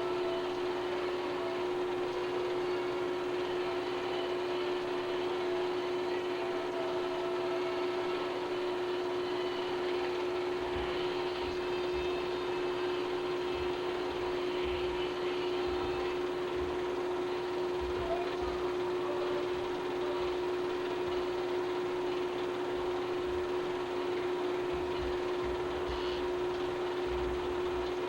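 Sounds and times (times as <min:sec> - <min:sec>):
steady machine hum: 0:00.0 - 0:28.0.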